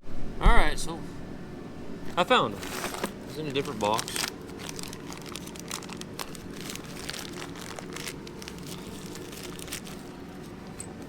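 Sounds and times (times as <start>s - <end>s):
steady low hum: 0.0s - 11.0s
packaging crinkling: 2.1s - 11.0s.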